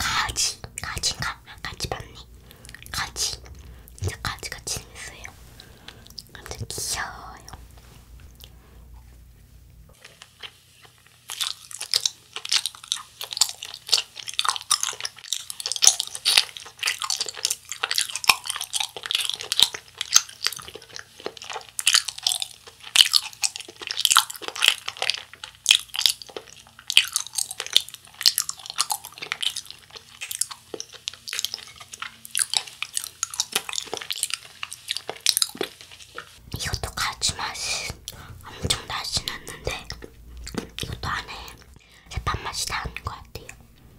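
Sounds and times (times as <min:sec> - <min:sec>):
sticky chewing mouth clicks: 0:05.9 - 0:07.6, 0:09.9 - 0:43.7.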